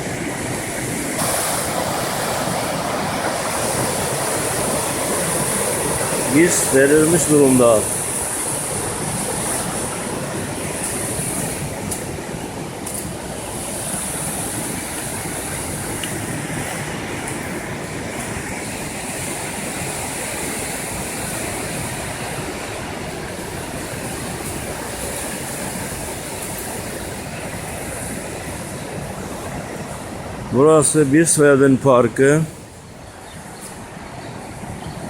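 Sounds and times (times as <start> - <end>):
river rushing: 0.0 - 35.0.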